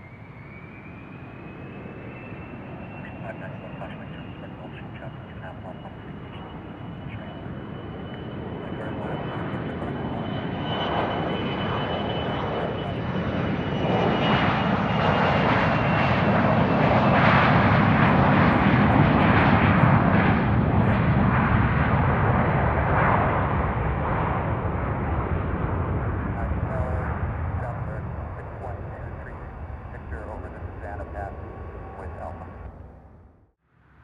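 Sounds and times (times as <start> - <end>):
jet engines roaring on takeoff: 0.0 - 33.3.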